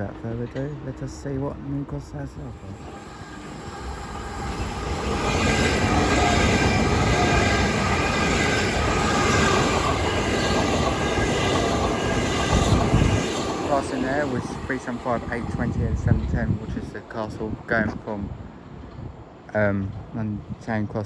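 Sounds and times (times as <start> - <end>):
train passing: 0.0 - 21.0
wheels rushing on rail: 0.6 - 20.6.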